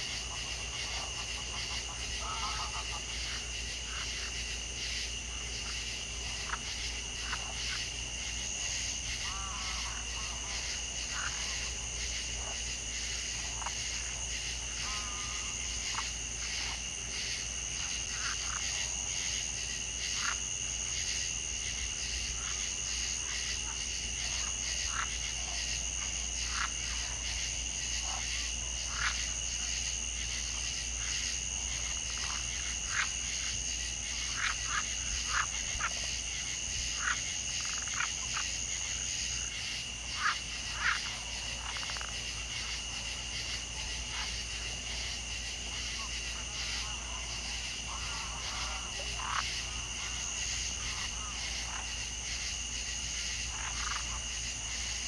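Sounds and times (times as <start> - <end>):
frog calls: 0.0 - 55.0
high-pitched insect trills: 0.0 - 55.0.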